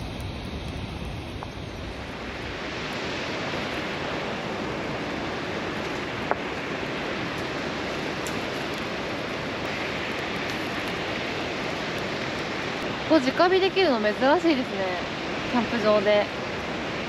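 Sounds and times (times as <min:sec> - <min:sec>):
river water rushing: 0:01.6 - 0:17.0.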